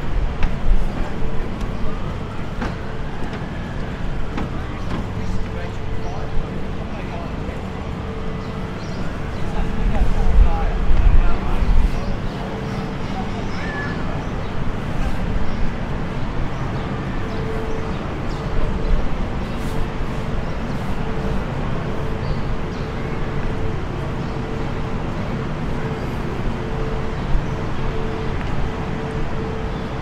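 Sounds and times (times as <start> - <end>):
low city rumble: 0.0 - 30.0.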